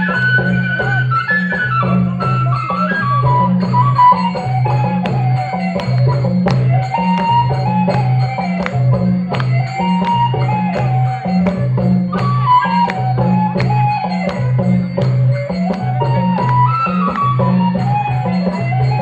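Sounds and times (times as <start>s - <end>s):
folk melody: 0.0s - 19.0s
hand drum beating: 1.7s - 19.0s.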